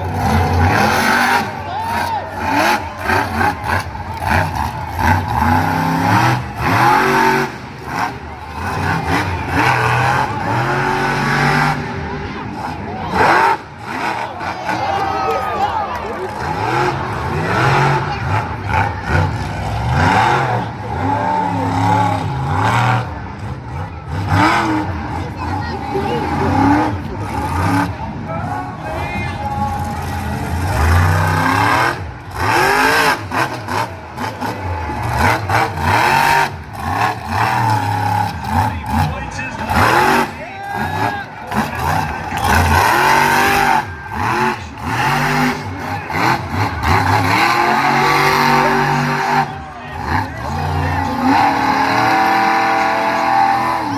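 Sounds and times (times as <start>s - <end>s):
monster truck engine revving: 0.0s - 53.9s.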